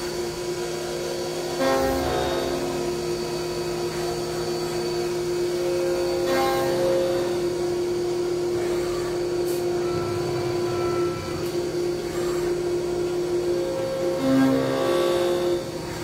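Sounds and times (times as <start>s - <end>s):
milling machine hum: 0.0s - 16.0s.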